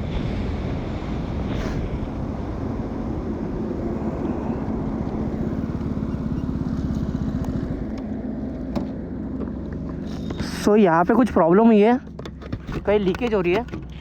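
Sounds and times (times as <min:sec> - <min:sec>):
motorcycle engine running: 0:01.9 - 0:14.0.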